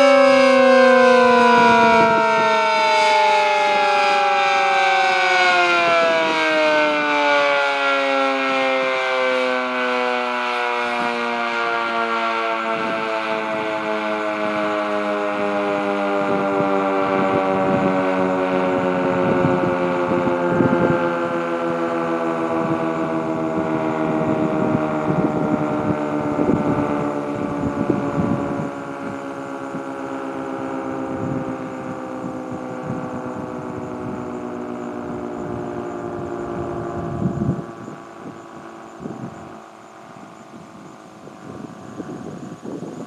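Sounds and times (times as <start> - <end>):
civil defense siren winding down: 0.0 - 43.0.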